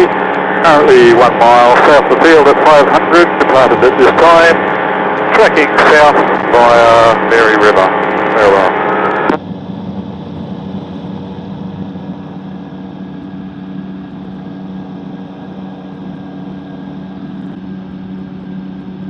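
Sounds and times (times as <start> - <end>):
engine and propeller droning: 0.0 - 19.0.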